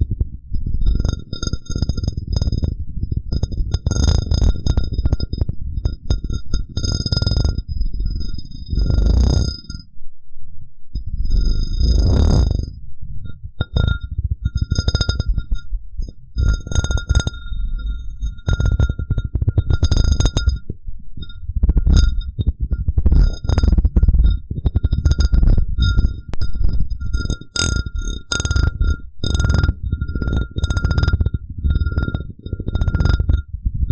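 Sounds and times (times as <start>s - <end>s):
glass rubbing on microphone: 0.0s - 9.9s, 11.0s - 12.8s, 13.6s - 33.9s.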